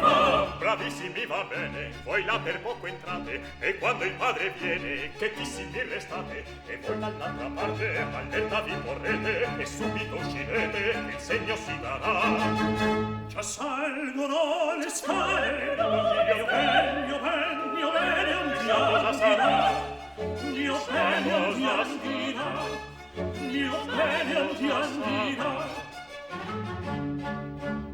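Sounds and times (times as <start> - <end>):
operatic singing with vibrato: 0.0 - 26.6
orchestra with bowed strings: 0.0 - 27.9.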